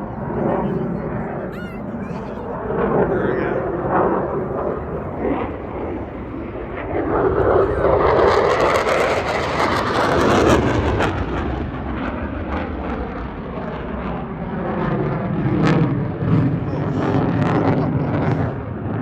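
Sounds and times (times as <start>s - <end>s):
jet aircraft passing by: 0.0s - 19.0s.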